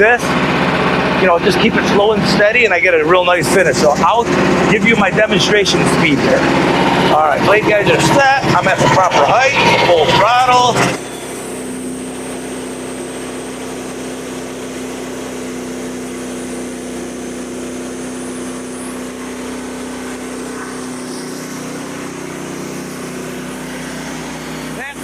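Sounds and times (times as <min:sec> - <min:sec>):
band saw cutting log: 0:00.0 - 0:25.0
gas engine running: 0:00.0 - 0:25.0.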